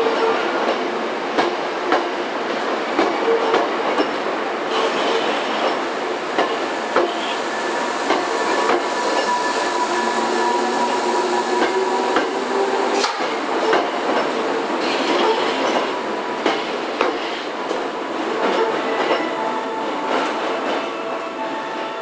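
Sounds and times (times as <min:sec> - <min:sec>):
electric train running past: 0:00.0 - 0:22.0.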